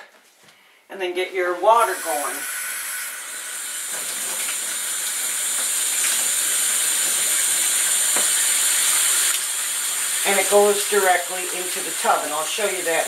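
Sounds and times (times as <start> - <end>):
tap water running into tub: 1.6 - 13.0.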